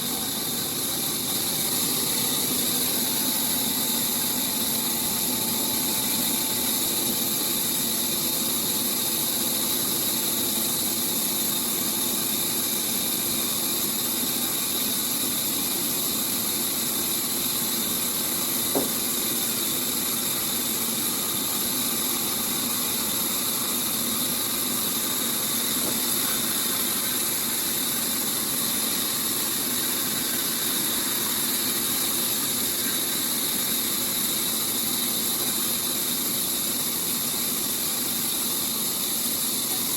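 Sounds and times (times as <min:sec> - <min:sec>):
sawmill machinery hiss and hum: 0:00.0 - 0:39.9.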